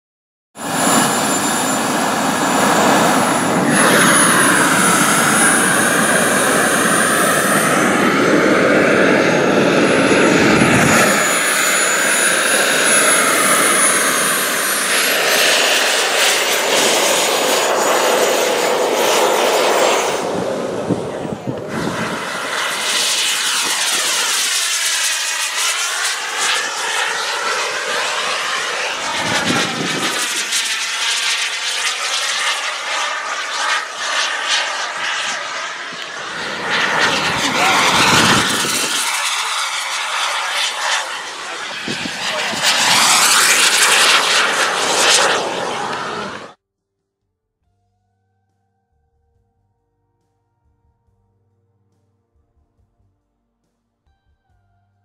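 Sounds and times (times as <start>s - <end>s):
model aircraft engine: 0.6s - 46.6s
thin high whine: 0.6s - 46.6s.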